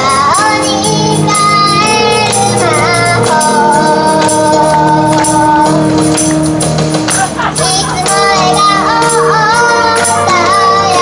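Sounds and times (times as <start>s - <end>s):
girl singing: 0.0s - 5.9s, 7.6s - 11.0s
pop backing track with beat: 0.0s - 11.0s.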